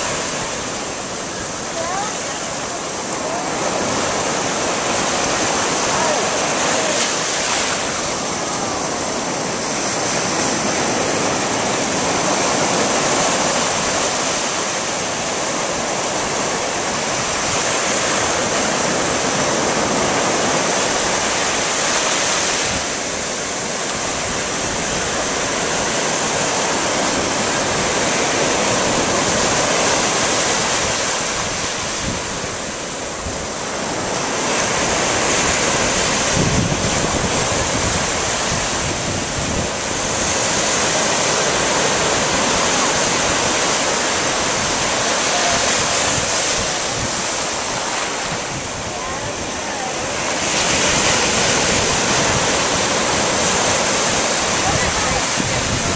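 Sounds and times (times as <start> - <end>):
surf breaking on beach: 0.0 - 55.9.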